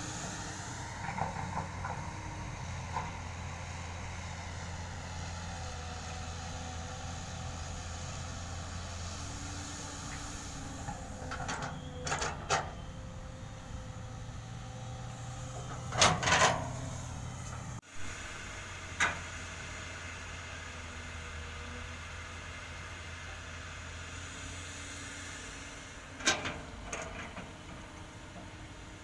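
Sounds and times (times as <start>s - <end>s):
heavy machinery engine drone: 0.0s - 29.0s.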